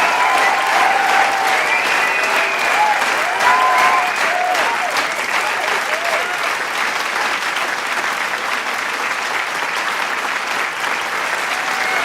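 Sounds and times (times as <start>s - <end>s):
crowd cheering: 0.0s - 12.0s
crowd clapping: 0.0s - 12.0s.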